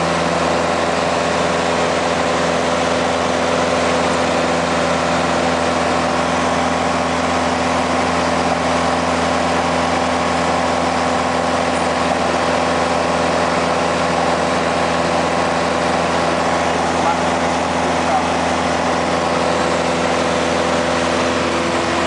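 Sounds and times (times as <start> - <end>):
plane engine and propeller drone: 0.0 - 22.0.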